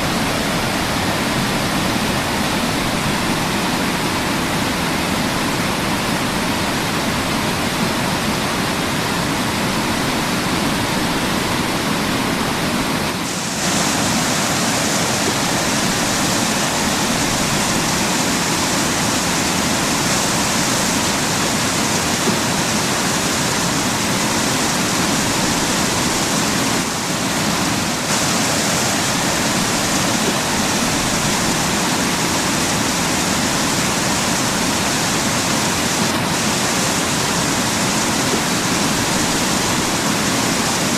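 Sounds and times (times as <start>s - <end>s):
waterfall pouring: 0.0s - 40.9s.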